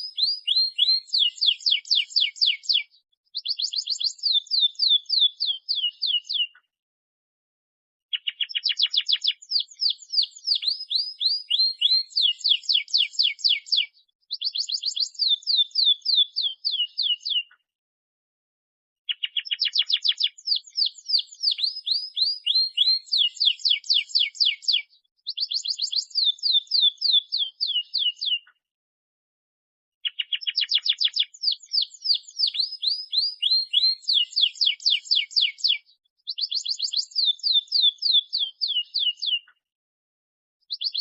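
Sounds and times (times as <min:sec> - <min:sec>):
canary singing trills: 0:00.0 - 0:06.6, 0:08.1 - 0:17.6, 0:19.1 - 0:28.5, 0:30.0 - 0:39.6, 0:40.6 - 0:41.0.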